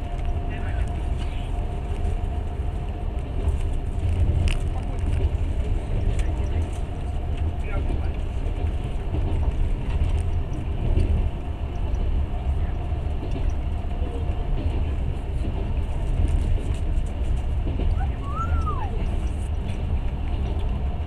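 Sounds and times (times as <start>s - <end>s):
train rumble from inside carriage: 0.0s - 21.0s.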